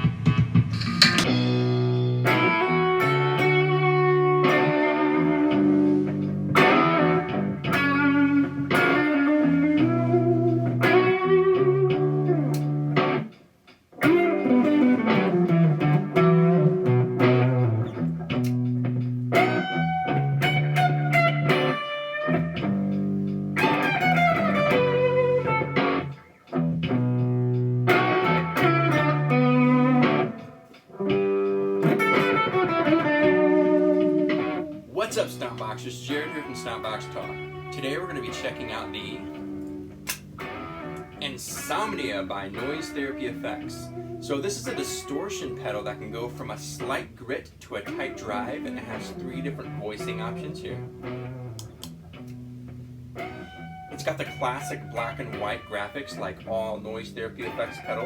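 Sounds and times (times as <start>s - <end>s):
distorted electric guitar riff: 0.0s - 58.0s.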